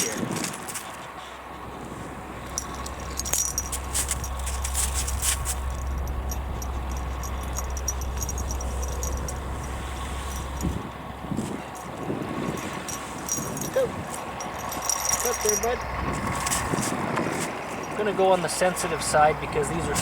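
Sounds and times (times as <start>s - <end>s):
metallic tackle jingling: 0.0s - 20.0s
steady low rumble: 0.0s - 20.0s.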